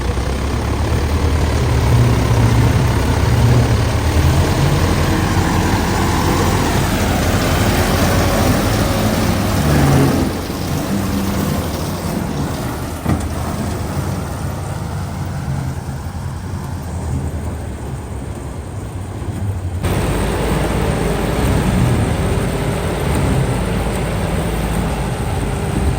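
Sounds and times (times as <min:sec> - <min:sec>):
diesel engines rumbling: 0:00.0 - 0:25.9.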